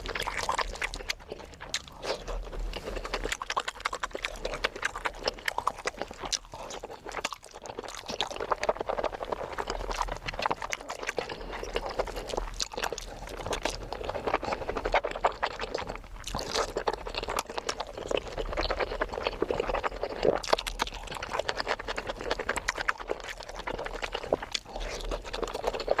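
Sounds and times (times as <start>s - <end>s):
wet chewing and smacking: 0.0s - 26.0s.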